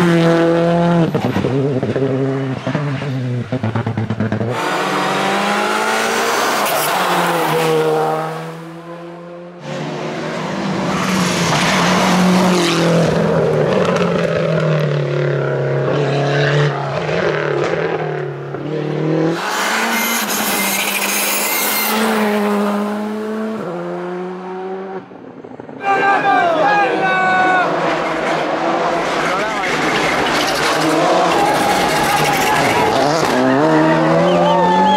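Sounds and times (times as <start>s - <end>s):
rally car engines revving: 0.0s - 34.9s.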